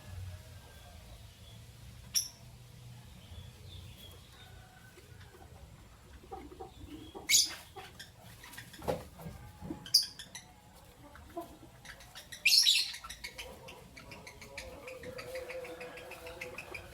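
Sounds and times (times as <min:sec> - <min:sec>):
lovebirds chirping: 0:00.6 - 0:16.9.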